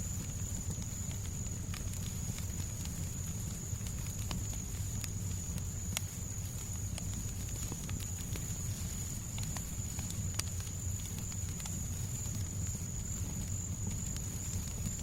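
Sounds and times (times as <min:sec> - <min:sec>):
fireplace crackling and popping: 0:00.0 - 0:15.0.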